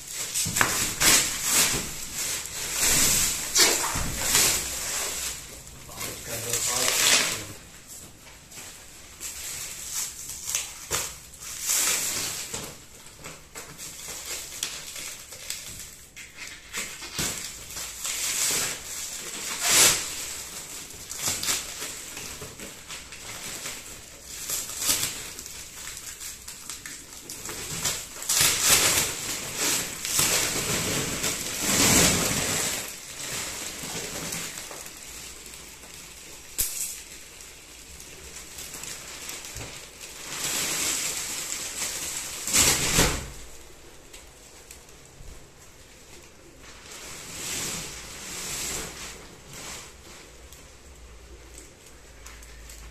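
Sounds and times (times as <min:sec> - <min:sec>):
plastic film crinkling: 0:00.0 - 0:52.9.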